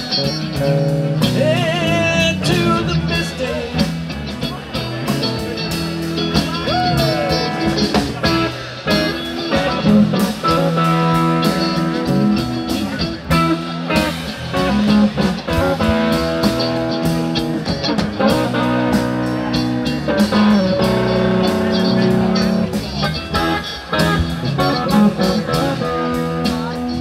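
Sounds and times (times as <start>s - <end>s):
bent guitar notes: 0.0s - 27.0s
rock band playing: 0.0s - 27.0s.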